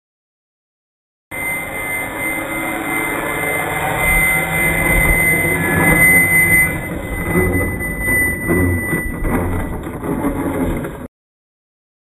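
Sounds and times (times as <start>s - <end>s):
model jet motor whining: 1.4s - 11.1s.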